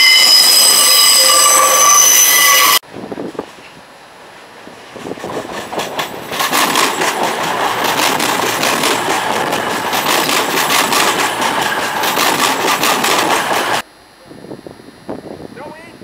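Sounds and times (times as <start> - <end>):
train rushing past: 0.0 - 13.8.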